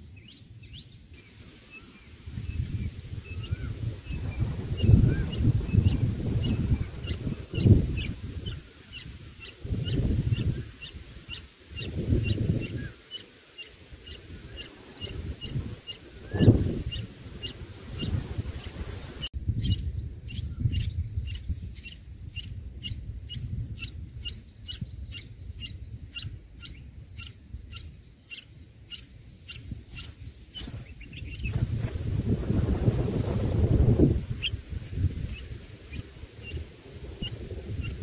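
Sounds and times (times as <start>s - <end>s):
nestlings chirping: 0.2s - 32.0s, 33.2s - 38.0s.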